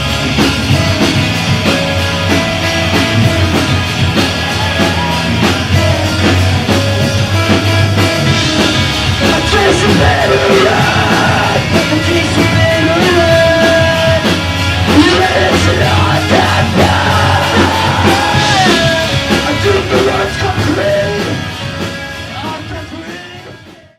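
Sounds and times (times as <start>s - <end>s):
rock music with vocals: 0.0s - 23.9s.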